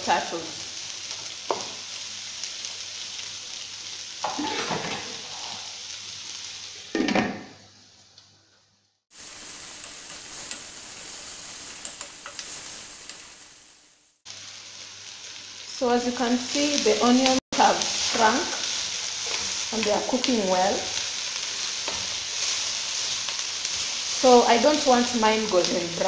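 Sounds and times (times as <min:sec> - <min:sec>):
onions sizzling in oil: 0:00.0 - 0:08.2, 0:09.1 - 0:26.0.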